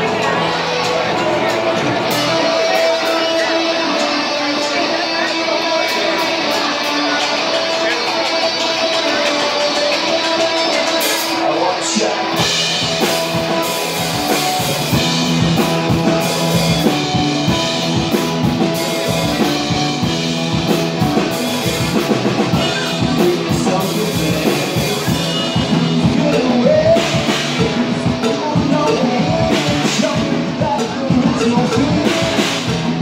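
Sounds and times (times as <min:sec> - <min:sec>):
electric guitar: 0:00.0 - 0:33.0
rock band drums and bass: 0:00.0 - 0:33.0.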